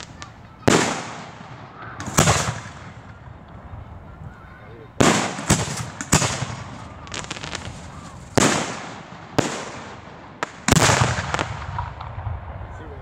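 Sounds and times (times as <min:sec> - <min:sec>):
small firework pops: 0:00.0 - 0:04.4, 0:05.0 - 0:12.5
firework shells bursting: 0:00.0 - 0:12.4.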